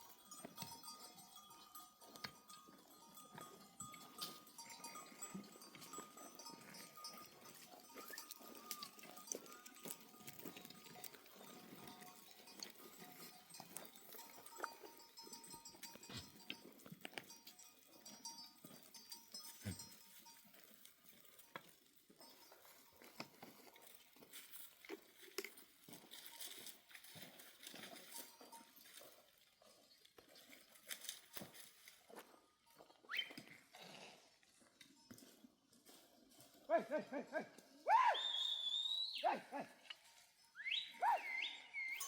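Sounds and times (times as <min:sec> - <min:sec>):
livestock bells clinking: 0:00.0 - 0:42.0.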